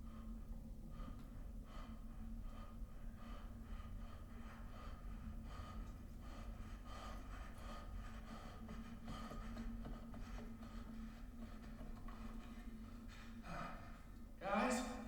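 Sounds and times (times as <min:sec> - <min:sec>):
heavy panting breaths: 0:00.1 - 0:14.4.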